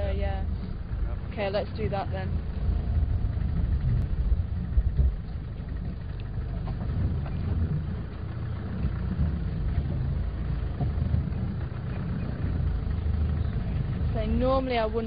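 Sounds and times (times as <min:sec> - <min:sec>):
vehicle engine rumbling: 0:00.0 - 0:15.0
faint knocks and rattles: 0:00.5 - 0:14.2.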